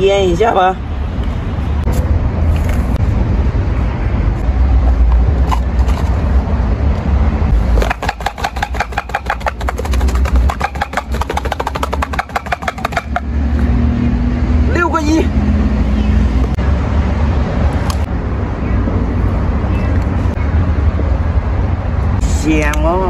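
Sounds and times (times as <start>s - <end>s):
wind and road noise rumble: 0.0s - 23.0s.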